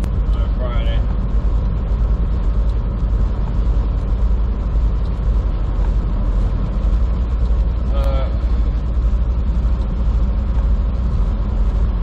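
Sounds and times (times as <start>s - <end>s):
road rumble: 0.0s - 12.0s
truck engine drone: 0.0s - 12.0s.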